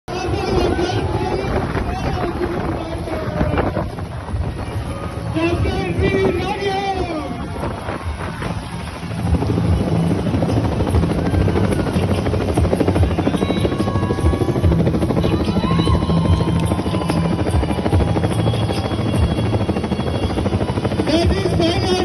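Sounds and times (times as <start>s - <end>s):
helicopter rotor chopping: 0.1s - 22.0s
voices: 0.1s - 22.0s.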